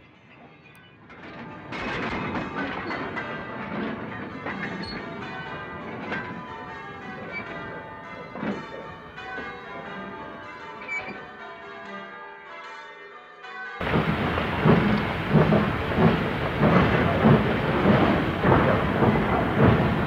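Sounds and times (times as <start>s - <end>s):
church bells ringing: 1.6s - 20.0s.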